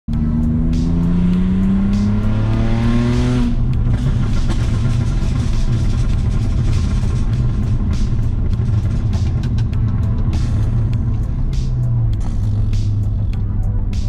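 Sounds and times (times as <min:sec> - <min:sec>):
car engine revving: 0:00.1 - 0:14.0.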